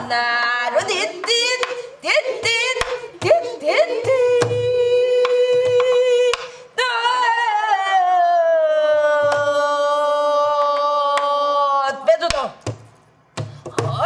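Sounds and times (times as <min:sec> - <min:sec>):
woman singing long held notes: 0:00.0 - 0:11.7.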